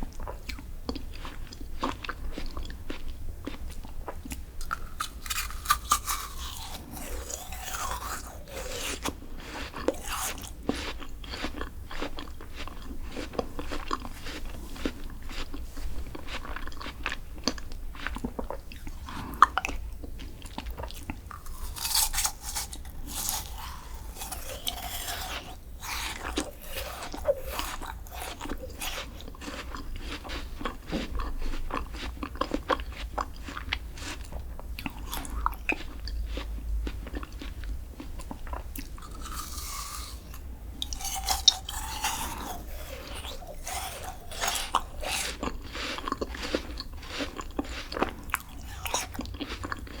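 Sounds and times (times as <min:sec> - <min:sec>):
crunching and chewing: 0:00.0 - 0:50.0.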